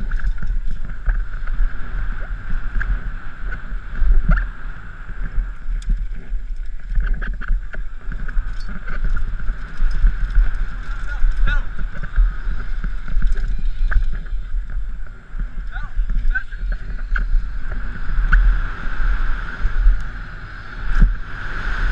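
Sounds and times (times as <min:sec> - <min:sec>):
bike rattling over rocky trail: 0:00.0 - 0:18.5
wind buffeting microphone: 0:00.0 - 0:21.9.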